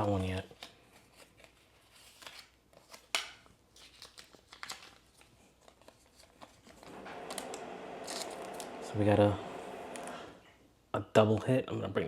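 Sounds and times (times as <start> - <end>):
trading cards rustling: 0.0 - 10.4.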